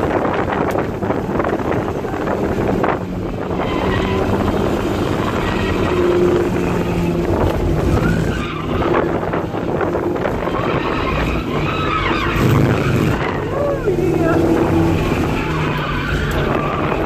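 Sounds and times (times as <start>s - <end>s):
car engine under throttle: 0.0s - 17.0s.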